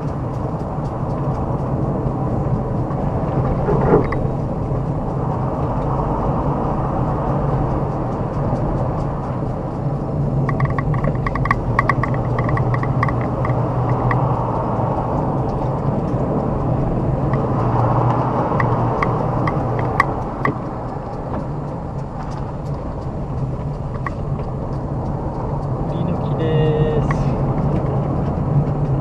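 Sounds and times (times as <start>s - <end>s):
car engine and road rumble: 0.0s - 29.0s
light ticks: 0.0s - 29.0s.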